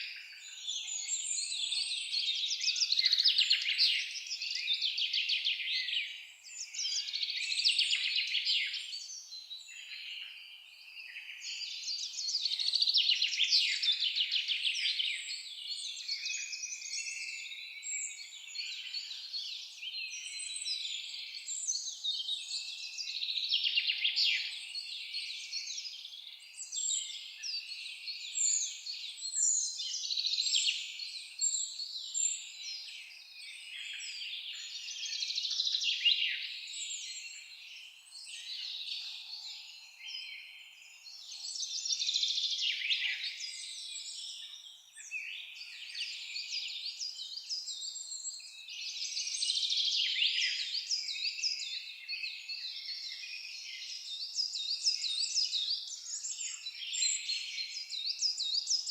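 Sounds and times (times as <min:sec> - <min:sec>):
songbirds chirping and trilling: 0:00.0 - 0:58.9.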